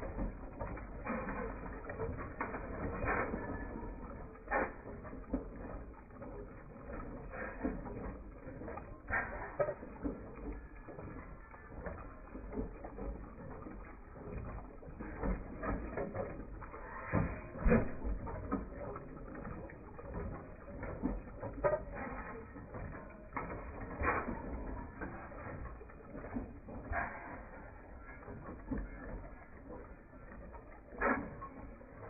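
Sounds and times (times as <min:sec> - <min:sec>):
antique machinery running: 0:00.0 - 0:32.0.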